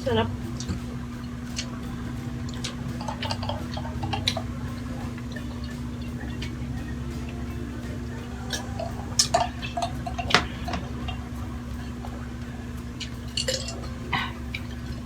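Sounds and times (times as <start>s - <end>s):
steady low hum: 0.0s - 15.0s
cutlery clinking on plates: 0.5s - 15.0s.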